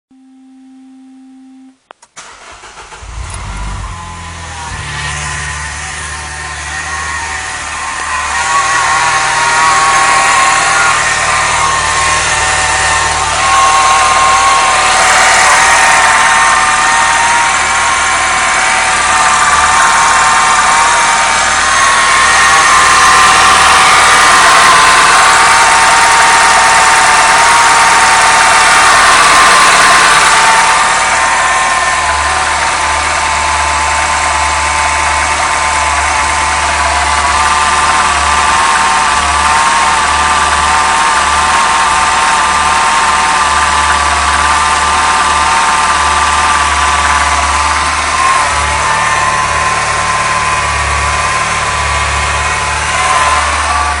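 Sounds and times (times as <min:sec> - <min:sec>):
pitched whine: 0:00.1 - 0:54.0
car engine idling: 0:02.1 - 0:54.0.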